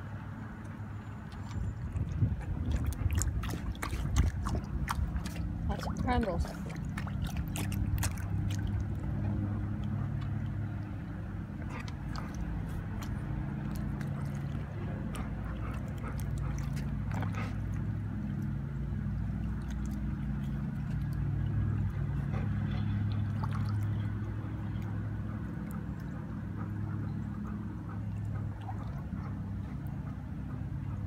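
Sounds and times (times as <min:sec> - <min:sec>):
low motor hum: 0:00.0 - 0:31.0.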